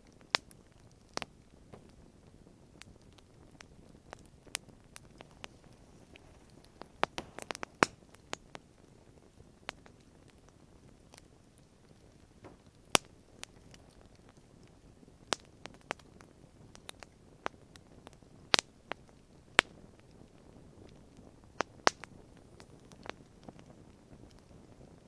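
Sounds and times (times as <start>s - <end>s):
faint low hiss: 0.0s - 25.0s
wood fire crackling: 0.0s - 25.0s.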